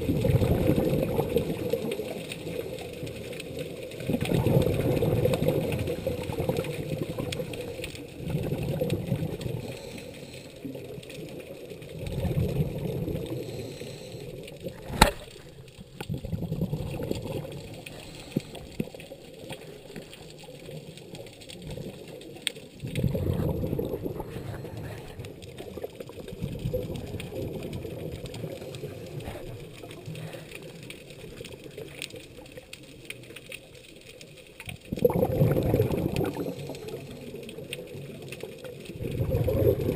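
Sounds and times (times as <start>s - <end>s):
regulator bubbles underwater: 0.0s - 39.9s.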